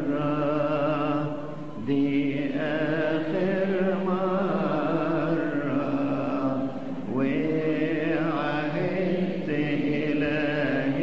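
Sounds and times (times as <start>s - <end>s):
man singing unaccompanied hymn: 0.0s - 11.0s.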